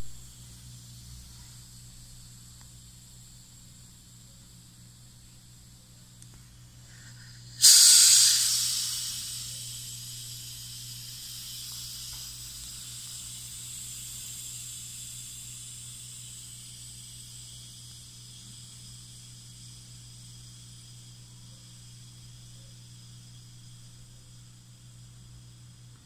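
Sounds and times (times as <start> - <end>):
gas hissing from bottle: 0.0 - 26.0.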